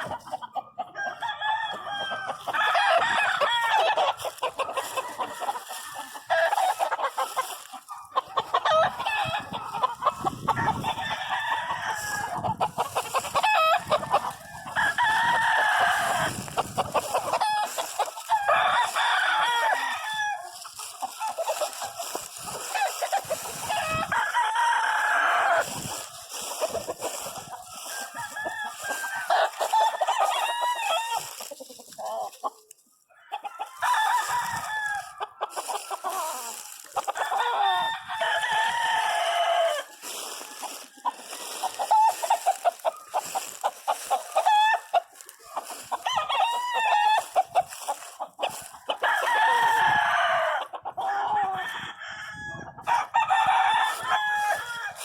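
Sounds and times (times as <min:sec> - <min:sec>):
chickens clucking: 0:00.0 - 0:55.0
roosters crowing: 0:00.0 - 0:55.0.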